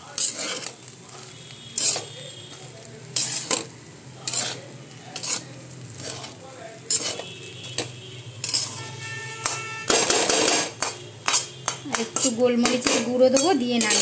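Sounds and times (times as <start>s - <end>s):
faint sizzle: 0.0s - 14.0s
metal spatula scraping and stirring: 0.0s - 14.0s.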